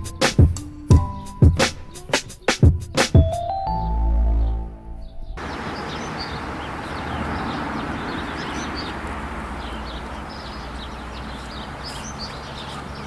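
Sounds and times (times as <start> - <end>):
birds chirping and singing: 0.8 - 13.0.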